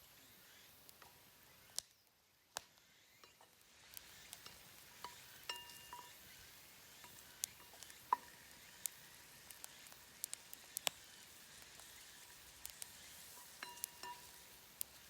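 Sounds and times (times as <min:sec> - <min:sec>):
faint cooking crackling and sizzling: 0:00.0 - 0:15.0.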